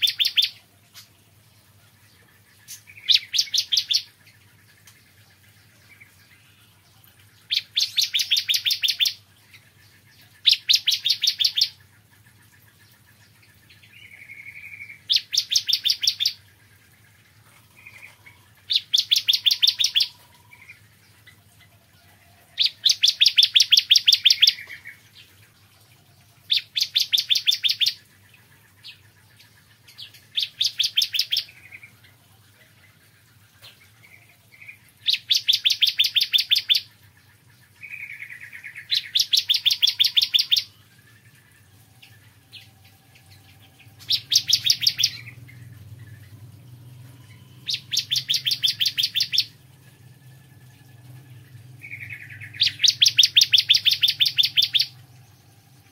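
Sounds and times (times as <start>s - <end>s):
bird singing high fast trills: 0.0s - 0.7s, 2.4s - 4.7s, 5.5s - 12.0s, 13.7s - 21.5s, 22.5s - 25.3s, 26.5s - 32.0s, 34.0s - 37.0s, 37.8s - 55.9s.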